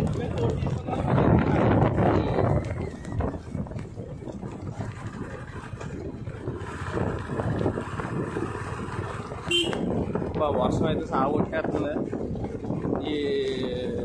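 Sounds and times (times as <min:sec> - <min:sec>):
motorcycle low rumble: 0:00.0 - 0:14.0
wind rushing over microphone: 0:00.0 - 0:14.0.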